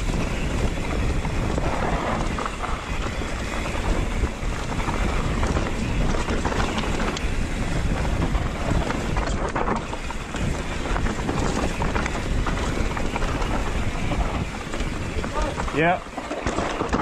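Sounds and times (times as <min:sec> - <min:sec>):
bike rattling and clicking: 0:00.0 - 0:17.0
bike tyre noise: 0:00.0 - 0:17.0
wind on microphone: 0:00.0 - 0:17.0.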